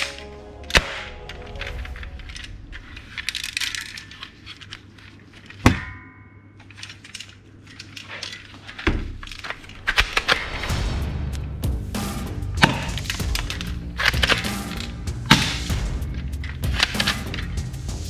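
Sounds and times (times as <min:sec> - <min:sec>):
plastic toy parts clicking: 0:00.0 - 0:05.7, 0:06.6 - 0:10.6, 0:12.6 - 0:17.8.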